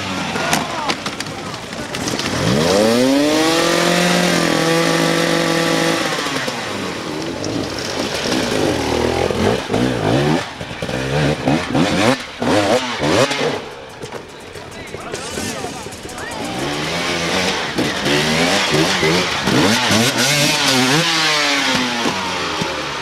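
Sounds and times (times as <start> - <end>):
dirt bike engine revving: 1.6 - 23.0.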